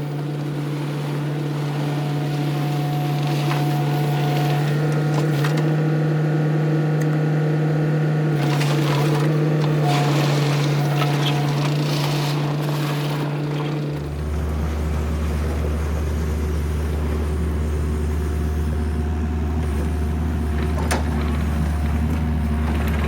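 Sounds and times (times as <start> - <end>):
earthmoving machine engine running: 0.0 - 23.0.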